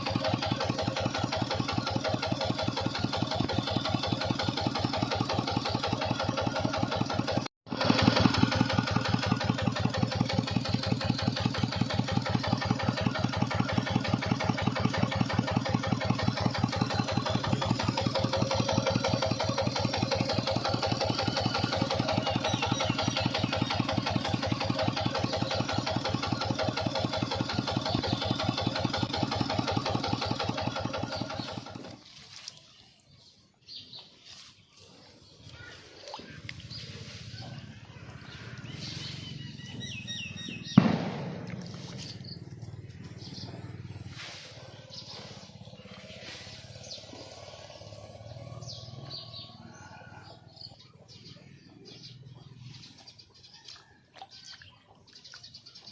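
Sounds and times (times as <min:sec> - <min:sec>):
tractor engine running: 0:00.0 - 0:32.3, 0:35.5 - 0:49.6.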